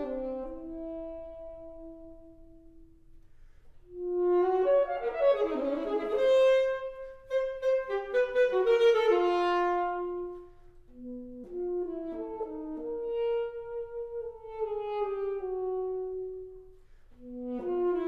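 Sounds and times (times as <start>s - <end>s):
alto saxophone playing fast runs: 0.0s - 2.9s, 3.9s - 18.0s.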